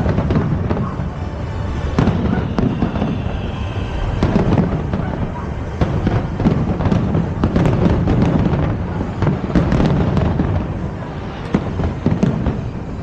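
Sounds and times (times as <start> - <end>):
fireworks bangs and crackles: 0.0 - 13.0
low rumble: 0.0 - 13.0
sharp firework bang: 0.0 - 13.0.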